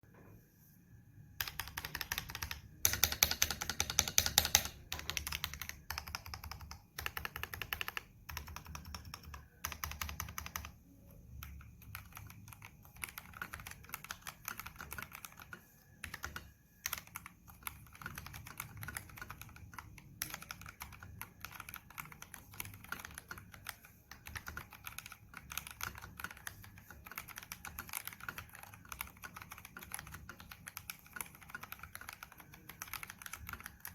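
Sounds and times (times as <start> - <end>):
mechanical keyboard typing: 1.4 - 33.9.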